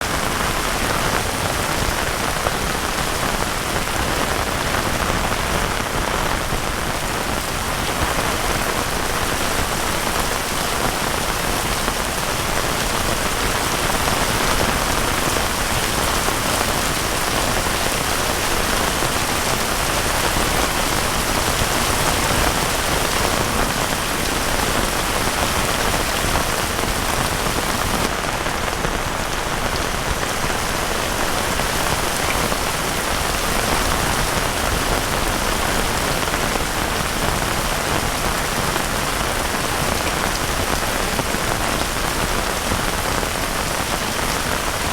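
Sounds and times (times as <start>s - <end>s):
heavy rain pattering: 0.0s - 44.9s.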